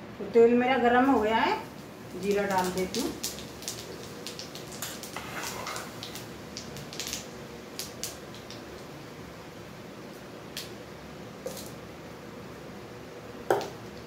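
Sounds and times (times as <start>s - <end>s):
seeds sizzling and popping in oil: 0.9s - 12.2s, 13.4s - 14.0s.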